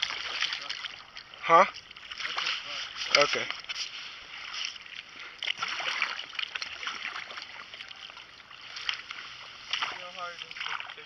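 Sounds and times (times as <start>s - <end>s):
water splashing at kayak: 0.0s - 11.0s.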